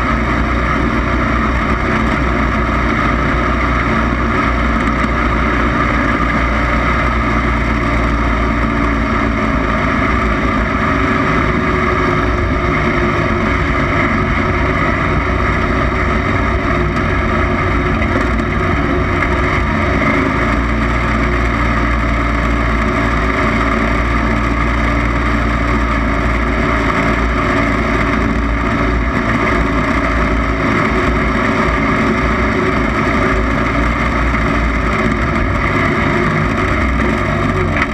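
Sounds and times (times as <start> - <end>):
lawn mower engine running fast: 0.0 - 37.9.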